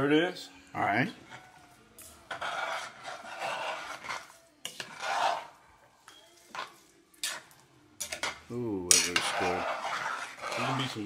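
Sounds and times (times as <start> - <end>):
spoon scraping pot: 1.2 - 11.0.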